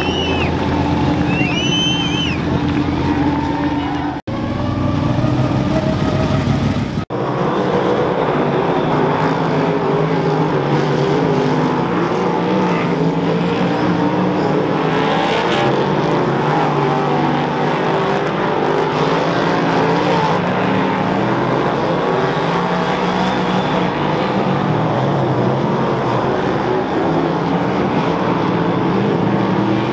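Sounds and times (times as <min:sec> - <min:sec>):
race car engines at speed: 0:00.0 - 0:29.9.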